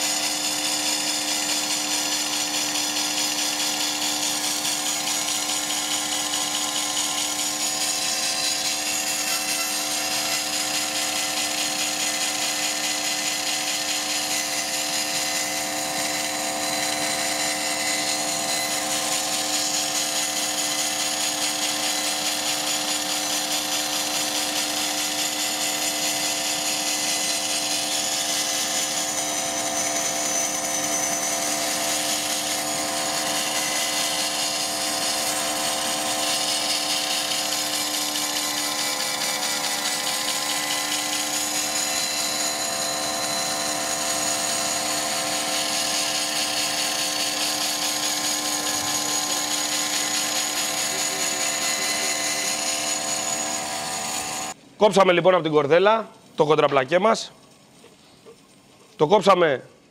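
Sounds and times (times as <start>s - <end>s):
band saw cutting plywood: 0.0s - 54.6s.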